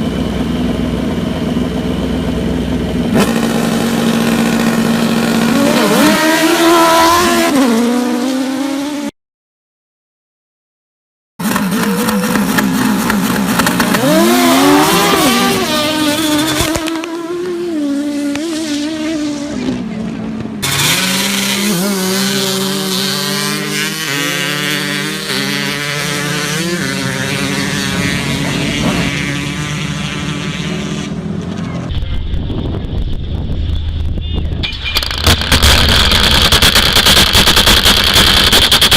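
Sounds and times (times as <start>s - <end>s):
motorcycle engines revving hard: 0.0s - 9.1s, 11.4s - 31.9s, 34.7s - 38.9s.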